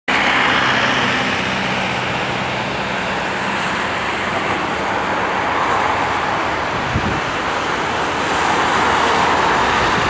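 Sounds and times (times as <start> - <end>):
jet engines rushing: 0.1 - 10.0.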